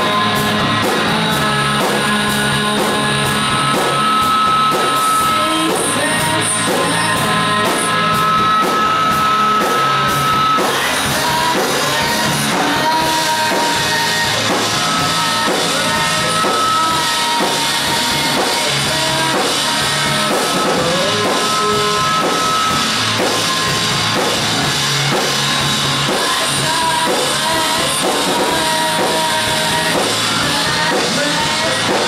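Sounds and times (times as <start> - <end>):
man singing: 0.0 - 22.8, 26.1 - 32.0
distorted electric guitar: 0.0 - 32.0
drum kit beat: 0.0 - 32.0.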